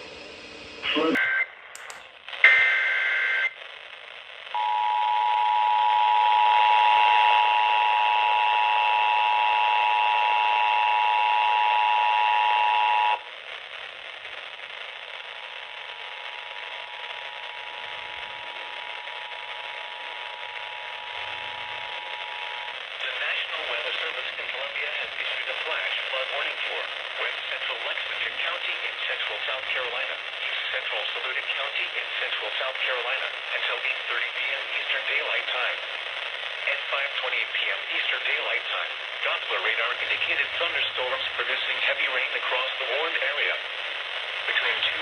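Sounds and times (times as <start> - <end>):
radio hiss: 0.0 - 45.0.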